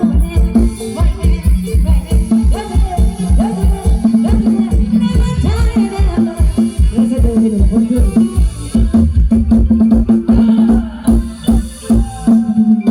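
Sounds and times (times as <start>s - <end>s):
drums keeping steady beat: 0.0s - 12.9s
live band music: 0.0s - 12.9s.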